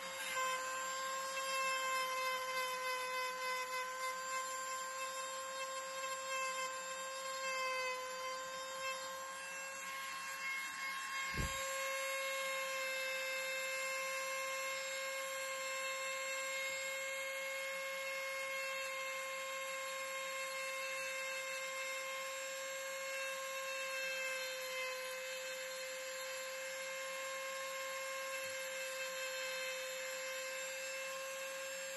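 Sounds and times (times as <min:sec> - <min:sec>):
rotary tool whining: 0:00.0 - 0:31.9.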